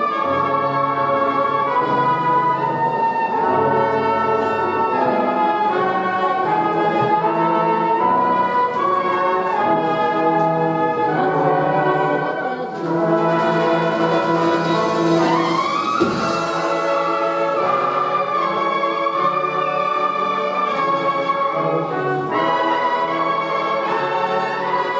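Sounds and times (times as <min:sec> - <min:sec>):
brass band playing slow melody: 0:00.0 - 0:24.9.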